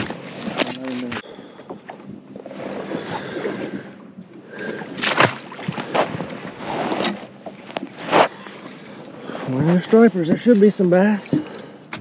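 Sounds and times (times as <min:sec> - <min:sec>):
water sloshing against boat: 0:00.0 - 0:12.0.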